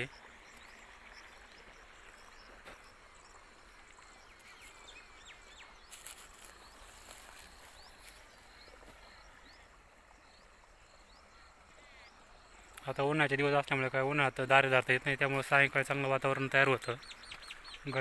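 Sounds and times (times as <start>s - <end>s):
quiet hiss: 0.0s - 18.0s.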